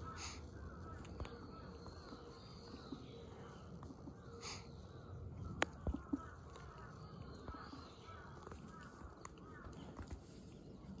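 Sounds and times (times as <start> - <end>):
bird chirps: 0.0 - 10.0.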